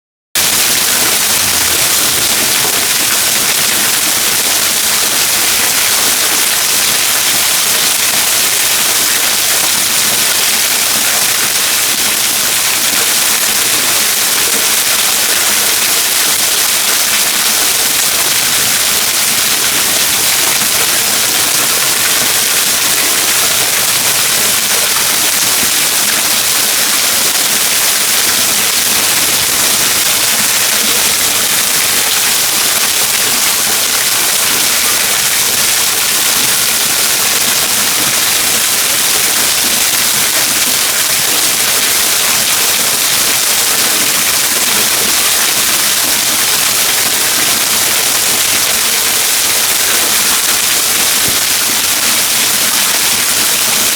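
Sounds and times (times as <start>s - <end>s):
waterfall roaring: 0.4s - 53.9s.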